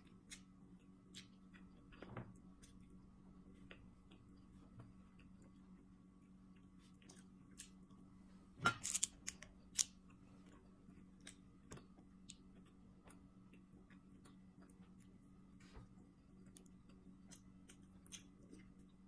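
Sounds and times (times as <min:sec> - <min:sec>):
person chewing: 0:00.0 - 0:08.0, 0:08.8 - 0:19.0.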